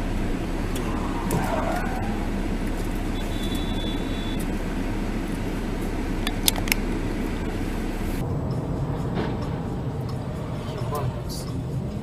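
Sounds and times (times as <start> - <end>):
vehicle road noise: 0.0 - 12.0.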